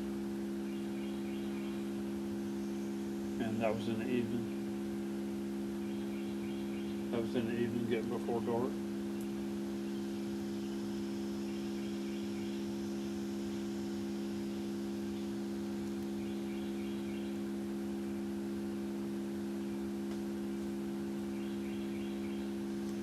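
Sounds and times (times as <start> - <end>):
continuous low hum tone: 0.0 - 23.0.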